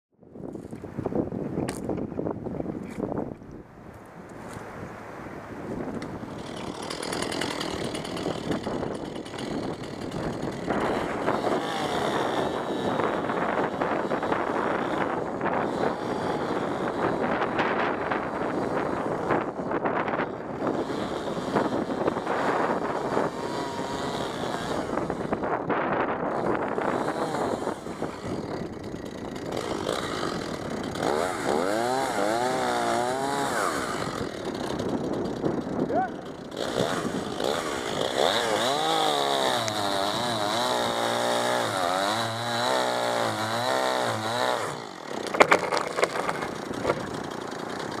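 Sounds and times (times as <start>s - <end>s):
chainsaw revving: 6.2s - 48.0s.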